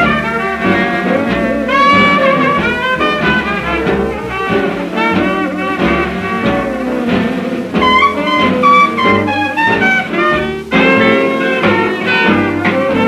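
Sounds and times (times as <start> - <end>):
swing band playing: 0.0 - 13.0.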